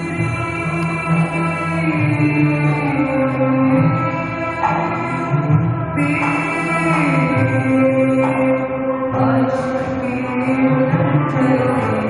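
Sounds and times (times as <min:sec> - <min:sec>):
string ensemble playing held notes: 0:00.0 - 0:12.0.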